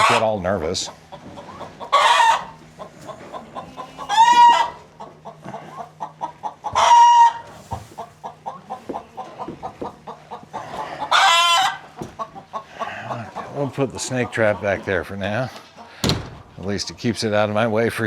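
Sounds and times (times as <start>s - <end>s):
farm animals calling: 0.0s - 17.7s.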